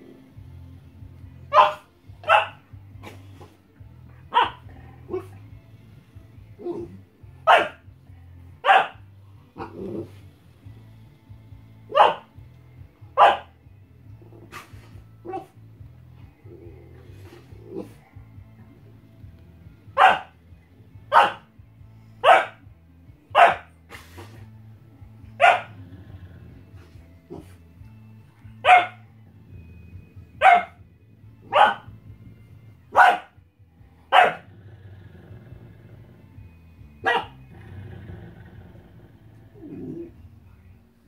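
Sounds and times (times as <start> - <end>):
background music: 0.0 - 41.0.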